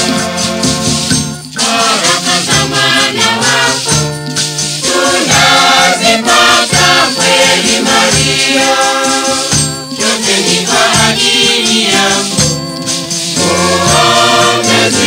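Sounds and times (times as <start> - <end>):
choir singing gospel song: 0.0 - 15.0
shaker keeping the beat: 0.0 - 15.0.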